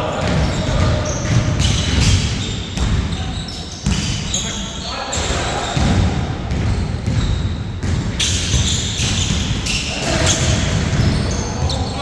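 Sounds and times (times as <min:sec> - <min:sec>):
basketball bouncing on court: 0:00.0 - 0:04.4, 0:05.2 - 0:11.9.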